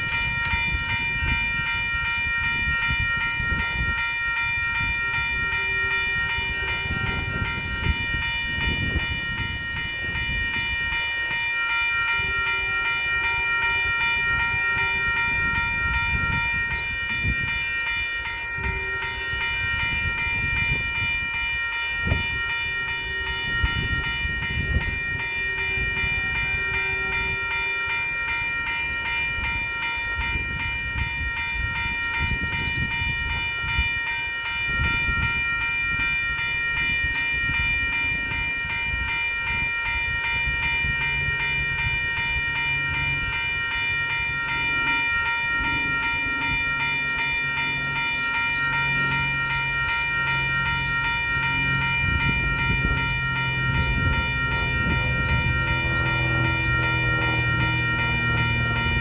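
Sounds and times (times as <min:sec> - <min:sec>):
high-pitched ringing tones: 0:00.0 - 0:59.0
train clanks: 0:00.0 - 0:59.0
train rumbling past: 0:00.0 - 0:59.0.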